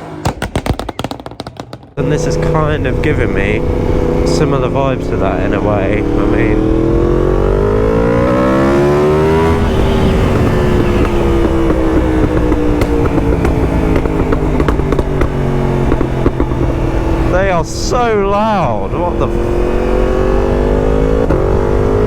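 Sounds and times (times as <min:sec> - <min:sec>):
motorcycle engine revving: 0:00.0 - 0:22.0
exhaust crackling and popping: 0:00.2 - 0:22.0.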